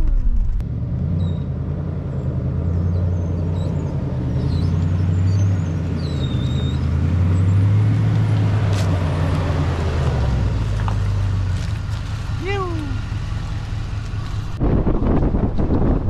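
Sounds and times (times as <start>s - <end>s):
low engine drone: 0.0s - 16.0s
road noise: 0.0s - 16.0s.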